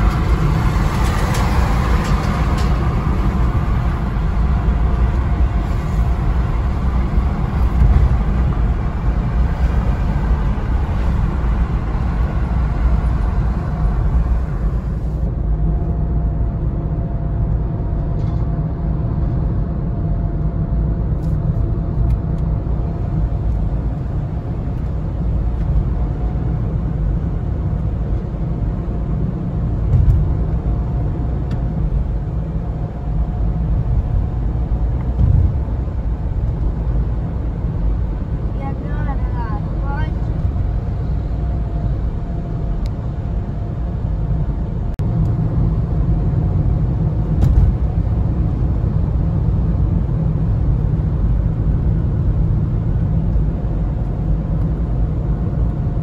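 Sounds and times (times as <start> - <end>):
car road noise: 0.0 - 56.0.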